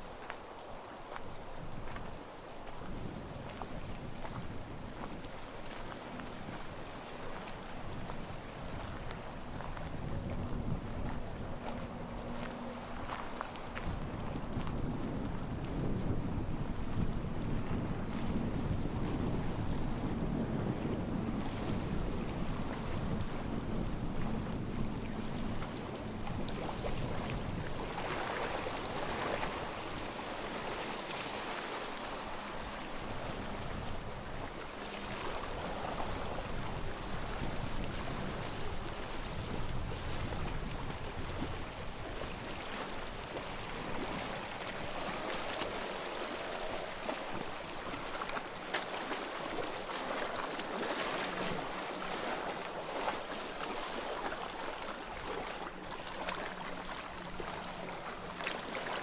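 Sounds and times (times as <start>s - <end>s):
small waves washing on shore: 0.0s - 59.0s.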